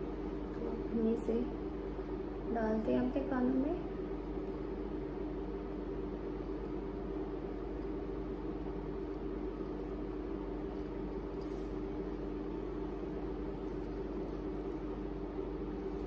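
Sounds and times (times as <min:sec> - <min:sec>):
steady room hum and hiss: 0:00.0 - 0:16.0.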